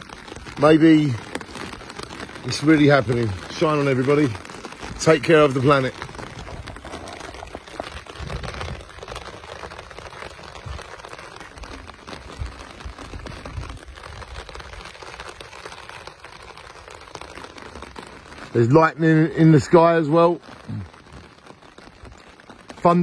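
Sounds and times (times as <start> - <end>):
heavy rain on umbrella: 0.0 - 23.0.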